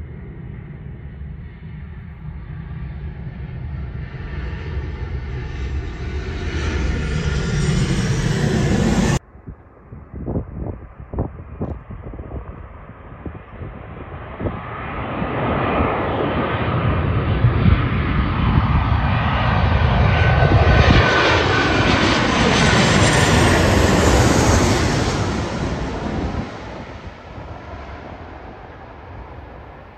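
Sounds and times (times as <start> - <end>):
jet airliner passing overhead: 0.0 - 29.9.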